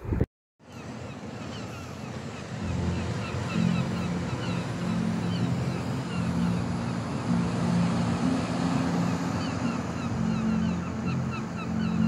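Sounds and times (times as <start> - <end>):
surf washing: 0.0 - 12.0
wind: 0.0 - 12.0.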